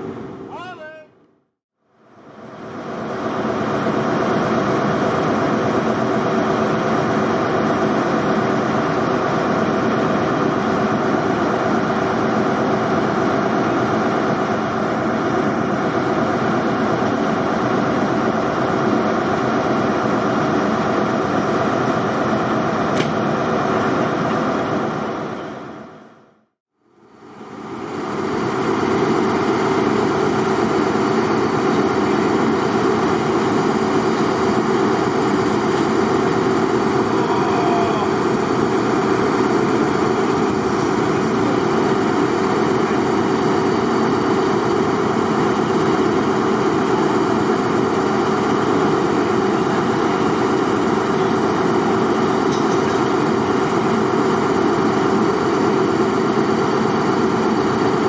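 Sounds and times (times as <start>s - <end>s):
diesel locomotive engine idling: 1.8s - 58.0s.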